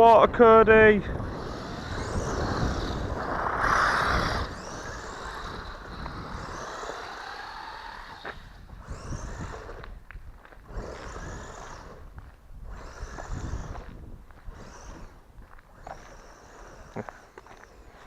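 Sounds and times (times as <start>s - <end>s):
electric motor whining: 0.0s - 18.0s
wind noise on microphone: 0.0s - 18.0s.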